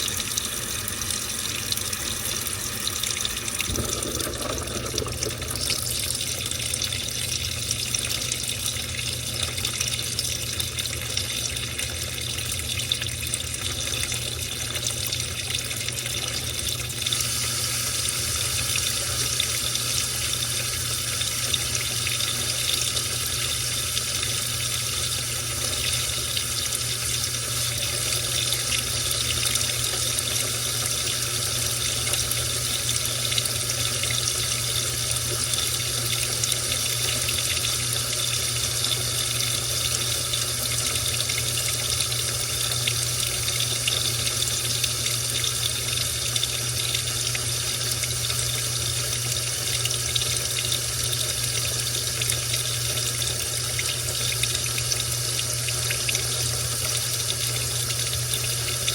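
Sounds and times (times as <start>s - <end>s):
washing machine water rushing: 0.0s - 58.9s.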